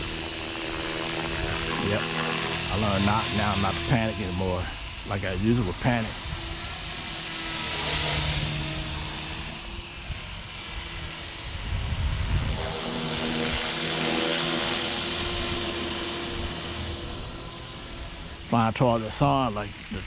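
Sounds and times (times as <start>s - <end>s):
high motor whine: 0.0s - 20.0s
rc helicopter rotor whirring: 0.0s - 20.0s.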